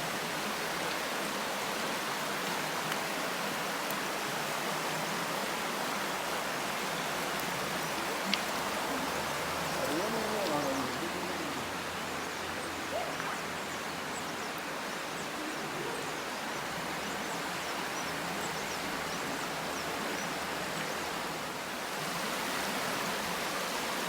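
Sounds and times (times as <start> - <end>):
stream flowing: 0.0 - 24.0.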